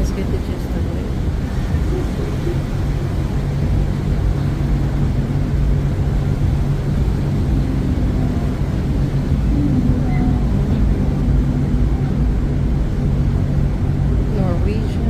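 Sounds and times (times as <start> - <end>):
ship engines rumbling: 0.0 - 15.0
wind on microphone: 0.0 - 15.0.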